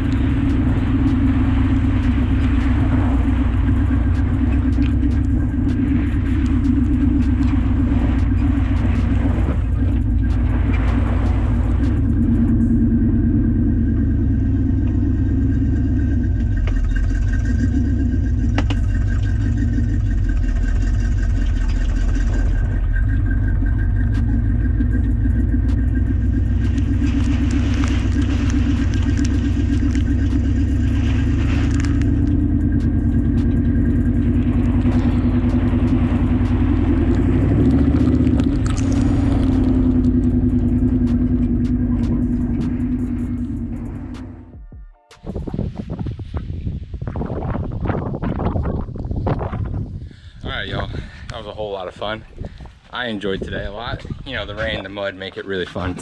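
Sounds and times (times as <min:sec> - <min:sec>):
car engine droning under load: 0:00.0 - 0:56.0.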